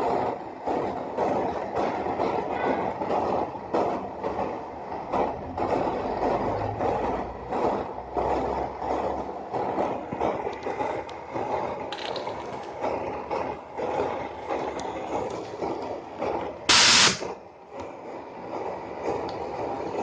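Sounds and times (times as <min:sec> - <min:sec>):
model steam engine chuffing: 0:00.0 - 0:17.4
steam hissing burst: 0:00.0 - 0:20.0.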